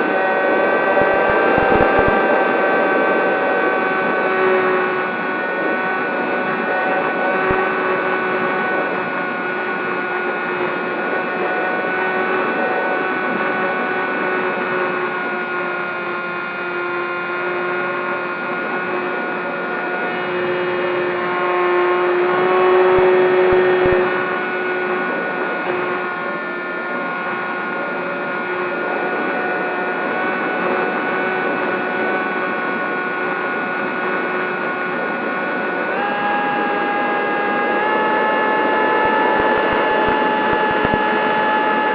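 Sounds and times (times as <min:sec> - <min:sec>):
rc plane electric motor whine: 0:00.0 - 0:41.9.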